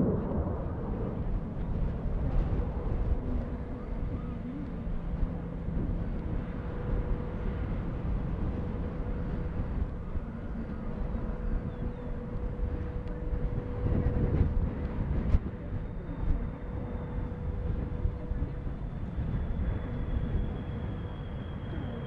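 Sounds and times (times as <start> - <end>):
constant whine: 0.0 - 22.0
distant jet engines rumbling: 0.0 - 22.0.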